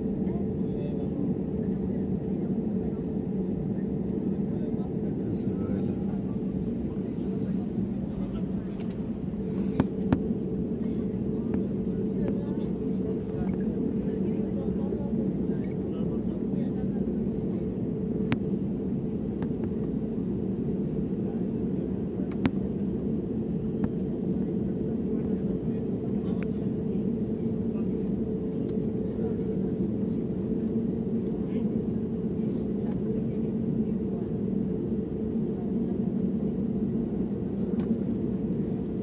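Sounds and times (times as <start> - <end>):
jet cabin rumble: 0.0 - 39.0.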